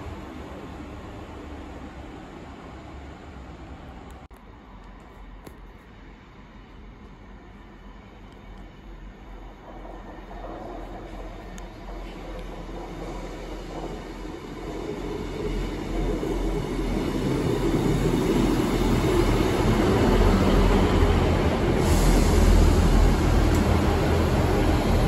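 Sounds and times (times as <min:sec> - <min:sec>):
diesel train engine drone: 0:00.0 - 0:25.0
train wheel rumble: 0:00.0 - 0:25.0.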